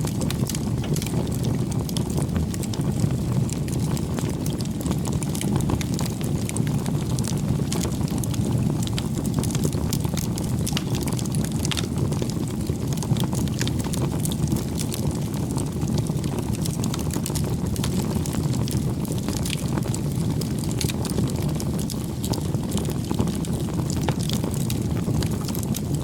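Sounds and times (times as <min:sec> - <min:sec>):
bonfire roaring: 0:00.0 - 0:26.0
wood crackling and popping: 0:00.0 - 0:26.0.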